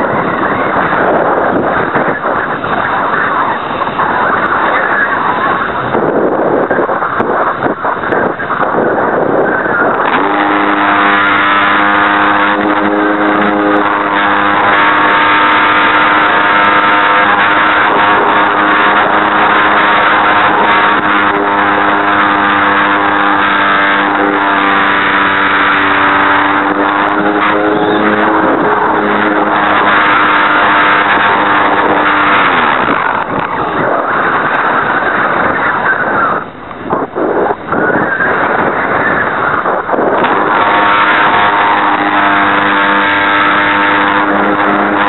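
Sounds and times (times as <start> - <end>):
rough rushing and rattling: 0.0 - 45.0
electric motor whine: 7.1 - 36.5, 37.1 - 45.0.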